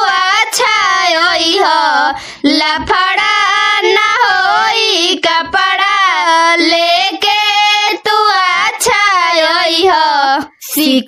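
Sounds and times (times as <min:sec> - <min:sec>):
high voice singing folk song: 0:00.0 - 0:11.0.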